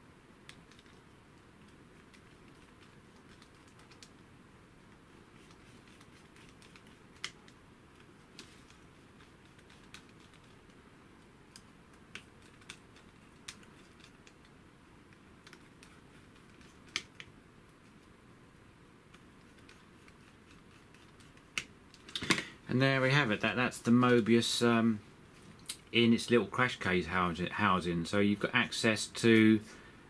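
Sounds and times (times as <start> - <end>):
faint room noise: 0.0 - 30.0.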